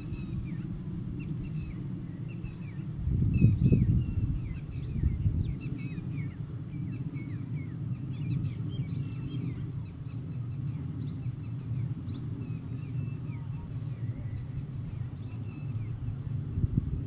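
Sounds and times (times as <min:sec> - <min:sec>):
birds chirping: 0:00.0 - 0:16.6
steady low rumble: 0:00.0 - 0:17.0.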